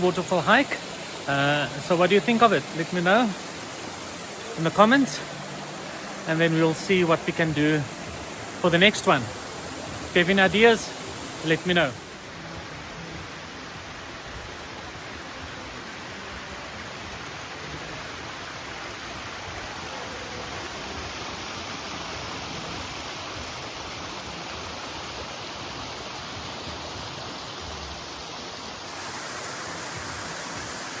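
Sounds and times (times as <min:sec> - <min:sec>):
falling water rushing: 0:00.0 - 0:31.0.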